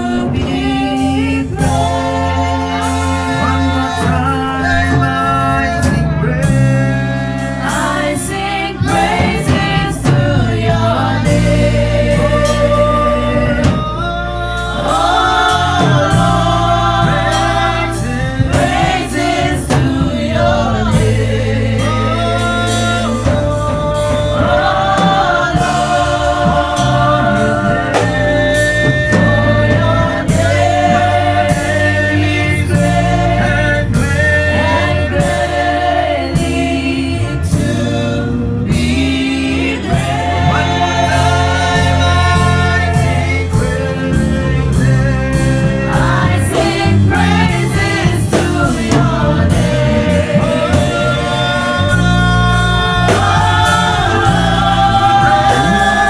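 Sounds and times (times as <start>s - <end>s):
gospel worship music: 0.0s - 56.0s.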